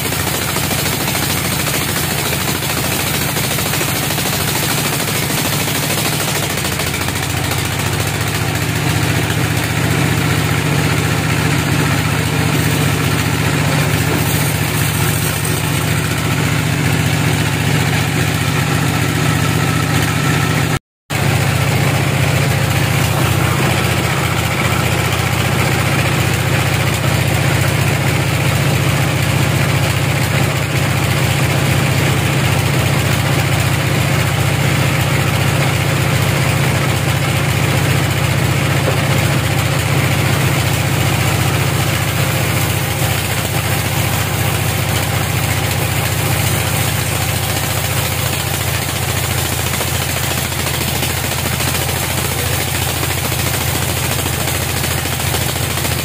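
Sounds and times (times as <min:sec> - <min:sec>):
band saw sawing logs: 0:00.0 - 0:28.2, 0:34.9 - 0:56.0.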